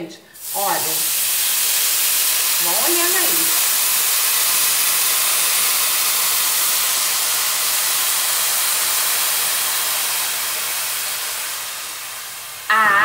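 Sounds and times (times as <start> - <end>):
water pouring from a kettle: 0.4 - 12.7
water sizzling in hot pan: 0.4 - 13.0.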